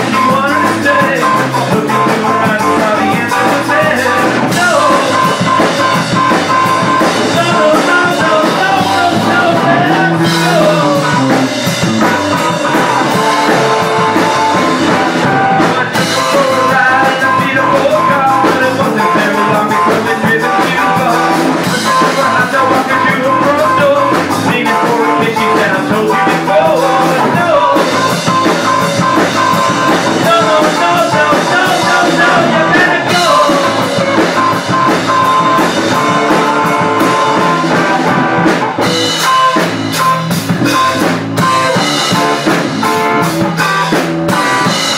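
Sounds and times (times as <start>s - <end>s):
live rock band playing: 0.0s - 44.9s
sliding lead guitar line: 0.0s - 44.9s.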